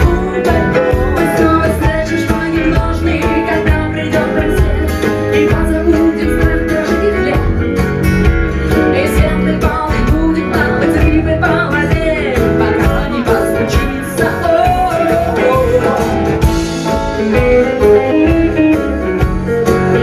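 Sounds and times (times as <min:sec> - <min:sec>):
rock band playing live: 0:00.0 - 0:20.0.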